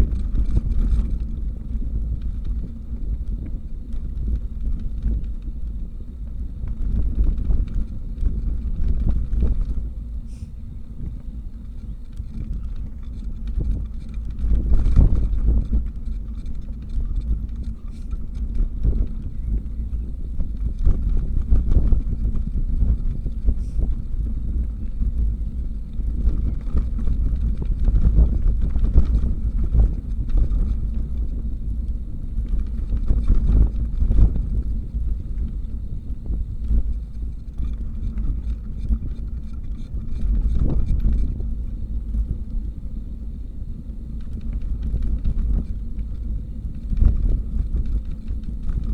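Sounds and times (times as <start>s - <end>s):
bicycle rattles and knocks: 0.0s - 10.2s, 10.9s - 43.1s, 43.7s - 48.9s
wind rumbling on microphone: 0.0s - 48.9s.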